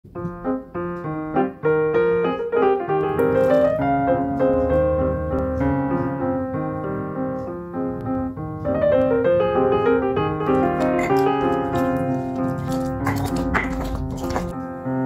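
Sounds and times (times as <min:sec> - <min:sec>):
piano music: 0:00.1 - 0:15.0.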